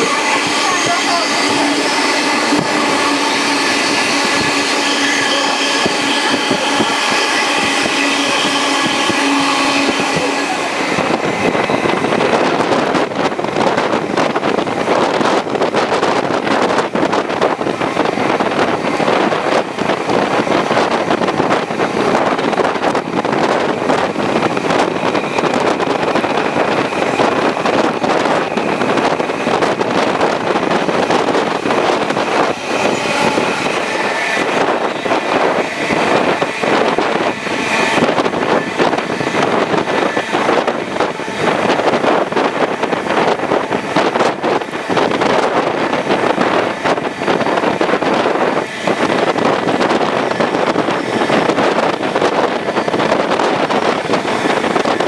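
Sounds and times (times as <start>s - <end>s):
rushing wind: 0.0s - 55.0s
steady tones: 0.0s - 55.0s
train wheels on rails: 0.0s - 55.0s.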